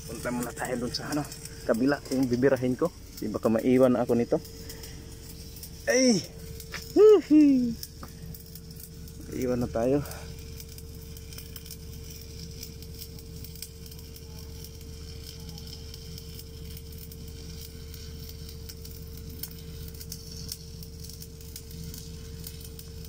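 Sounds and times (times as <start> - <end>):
arc welding crackling: 0.0 - 23.0
steady machine hum: 0.0 - 23.0.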